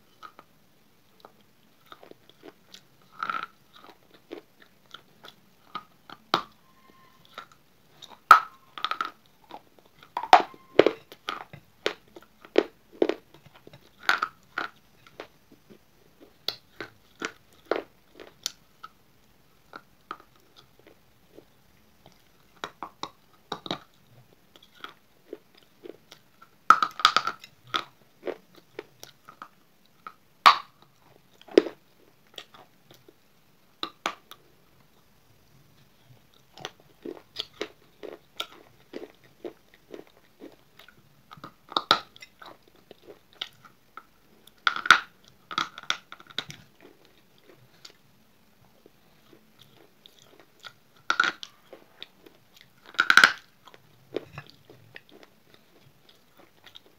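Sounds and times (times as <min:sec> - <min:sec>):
crunchy chewing of clay: 0:00.0 - 0:56.9.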